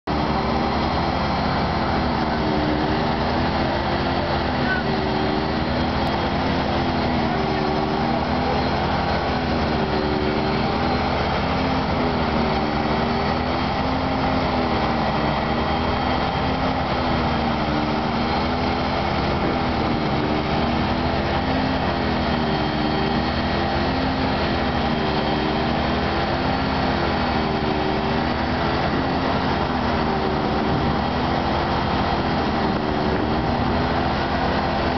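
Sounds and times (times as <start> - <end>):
fire engine diesel motors: 0.0 - 34.9.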